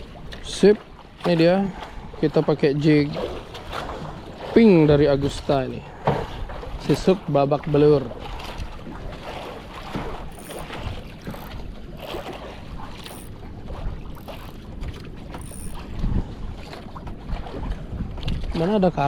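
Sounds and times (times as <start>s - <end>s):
water lapping against boat: 0.0s - 19.0s
wind buffeting microphone: 0.0s - 19.0s.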